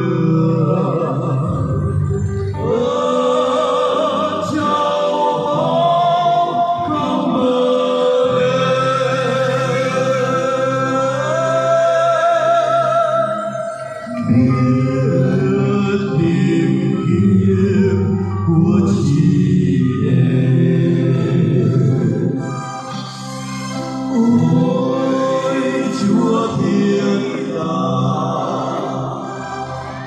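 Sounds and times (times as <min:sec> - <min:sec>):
slow christmas carol music: 0:00.0 - 0:30.0.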